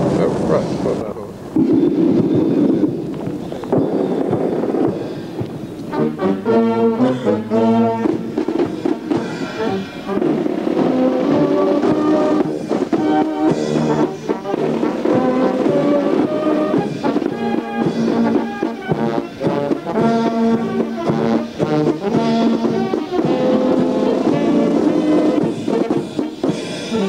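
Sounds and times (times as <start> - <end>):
military brass band playing: 1.5 - 27.0.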